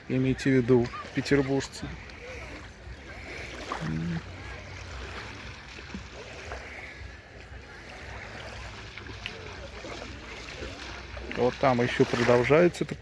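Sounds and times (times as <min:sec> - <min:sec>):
faint distant voices: 0:00.0 - 0:13.0
small waves lapping: 0:00.0 - 0:13.0.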